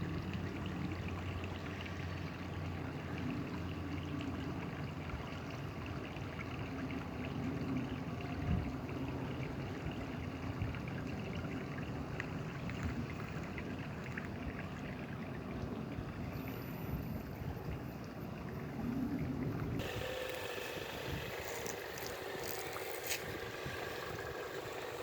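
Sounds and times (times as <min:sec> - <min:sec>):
creek water running over rocks: 0:00.0 - 0:16.7, 0:18.1 - 0:25.0.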